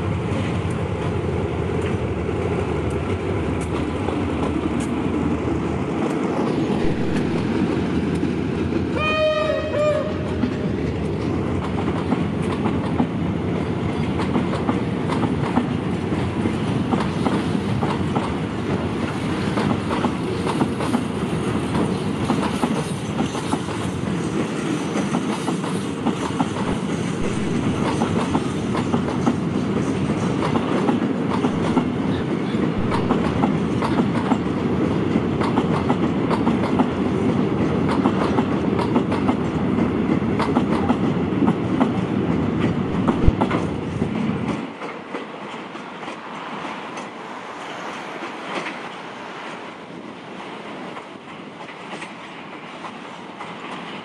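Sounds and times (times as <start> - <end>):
train wheels clattering over rails: 0.2 - 8.9, 10.2 - 49.7.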